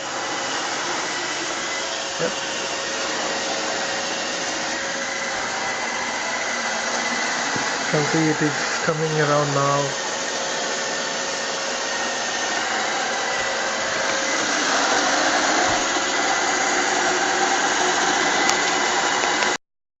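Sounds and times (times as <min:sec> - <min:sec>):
robot vacuum whirring: 0:00.0 - 0:19.6.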